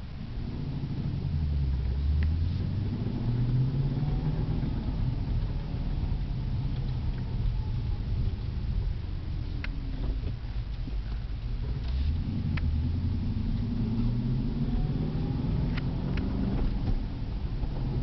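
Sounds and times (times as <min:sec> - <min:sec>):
car engine drone: 0:00.0 - 0:18.0.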